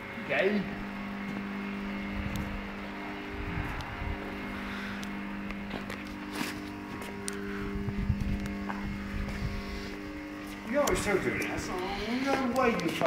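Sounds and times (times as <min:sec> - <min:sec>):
steady low hum: 0:00.0 - 0:13.0
uneven low rumble: 0:00.7 - 0:12.5.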